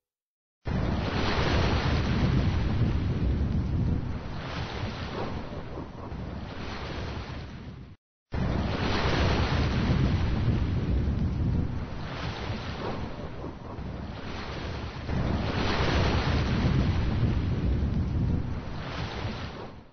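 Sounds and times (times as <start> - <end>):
sea waves washing up a beach: 0.7 - 19.9
wind buffeting microphone: 0.7 - 19.9.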